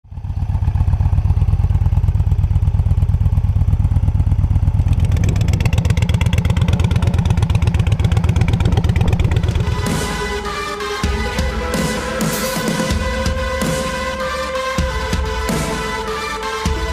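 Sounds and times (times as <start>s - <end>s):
motorcycle exhaust pulsing: 0.0s - 13.7s.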